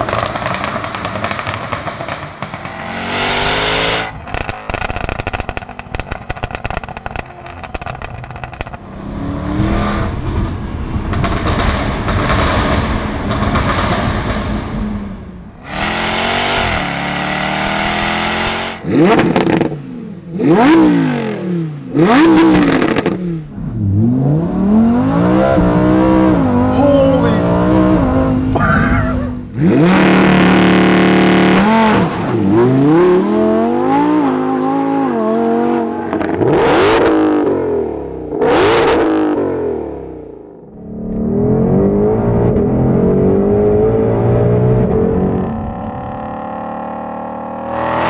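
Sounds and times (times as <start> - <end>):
car engine revving and accelerating: 0.0 - 26.8, 27.4 - 28.6, 29.4 - 48.0.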